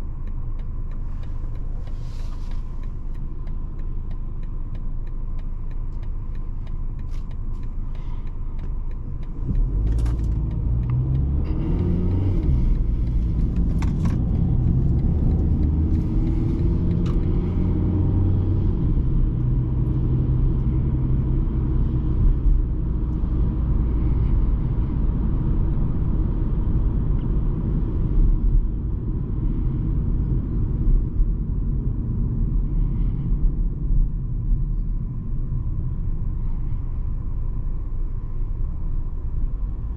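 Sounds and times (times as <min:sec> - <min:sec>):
diesel car engine: 0:00.0 - 0:39.9
road noise: 0:00.0 - 0:39.9.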